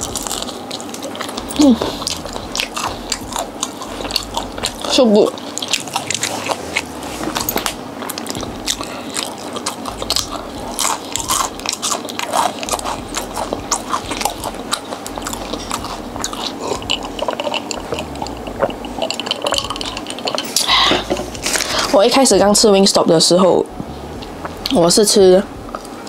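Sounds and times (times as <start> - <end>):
person chewing crispy food: 0.0 - 22.0.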